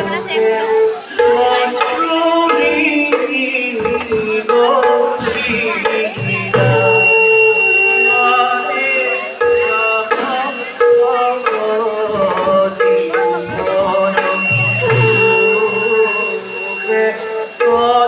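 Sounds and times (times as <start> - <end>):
hand drum beats: 0.0 - 8.1, 9.4 - 16.8.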